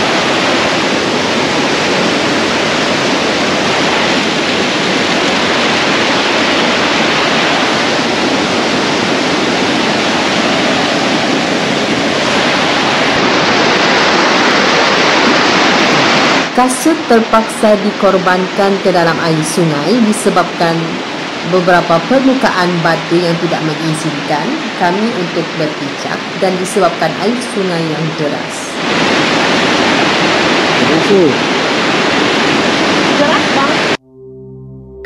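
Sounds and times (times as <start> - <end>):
river water rushing over boulders: 0.0 - 17.1, 18.0 - 34.0.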